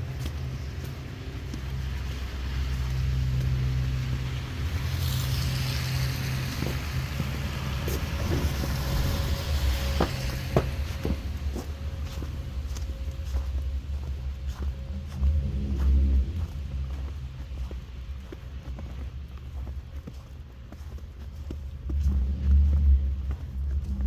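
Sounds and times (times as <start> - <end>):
sharp footsteps: 0.0 - 24.0
tyres hissing on snowy road: 0.0 - 24.0
vehicle engine humming: 0.0 - 24.0.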